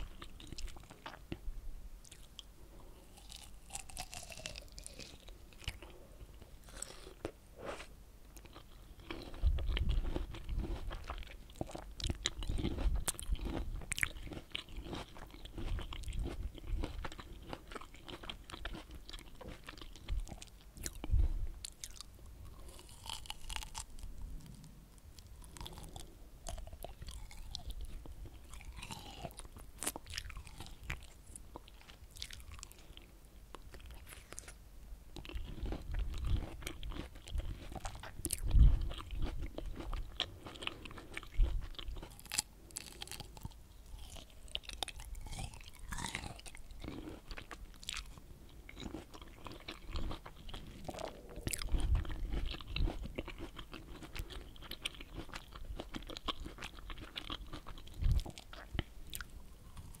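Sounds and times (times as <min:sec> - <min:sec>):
chewing fruit crunches: 0:00.0 - 0:01.4, 0:02.0 - 0:07.4, 0:08.4 - 1:00.0.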